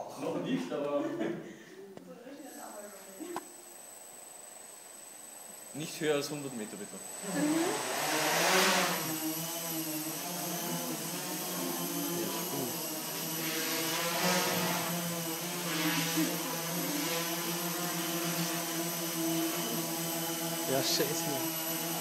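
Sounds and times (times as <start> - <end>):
drone propellers whirring: 3.8 - 22.0.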